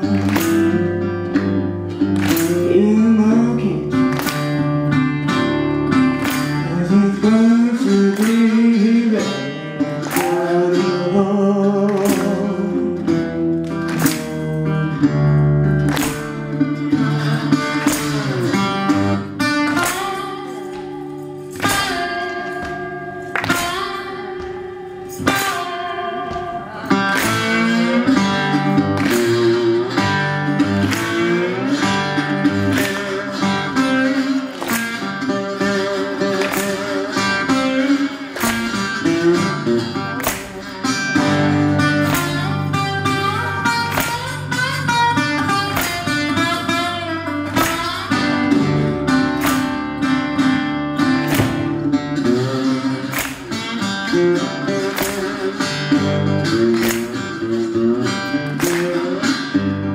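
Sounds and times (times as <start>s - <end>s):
percussion: 0.0s - 59.9s
resonator guitar blues: 0.0s - 59.9s.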